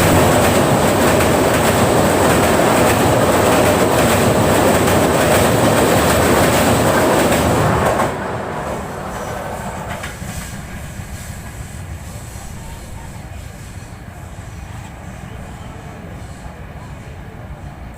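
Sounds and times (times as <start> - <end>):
train crossing a bridge: 0.0 - 17.9.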